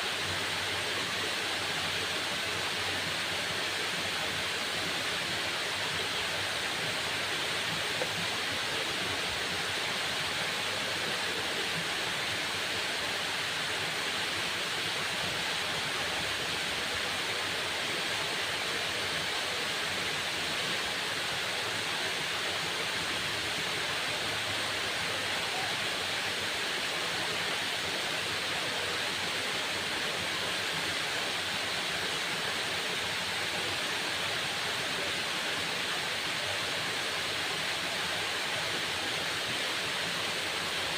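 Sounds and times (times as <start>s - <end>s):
waterfall rushing: 0.2s - 40.9s.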